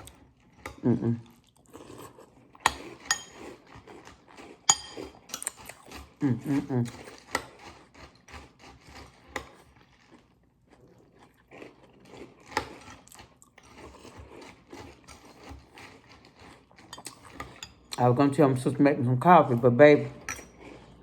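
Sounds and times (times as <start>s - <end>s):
chewing crunchy cereal: 0.0s - 21.0s.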